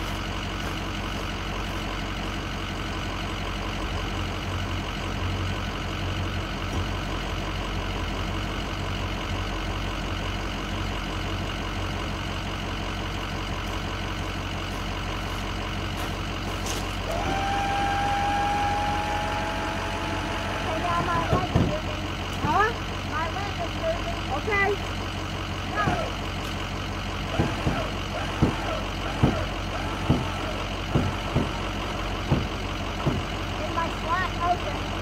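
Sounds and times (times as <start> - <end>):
pickup engine idling: 0.0 - 35.0.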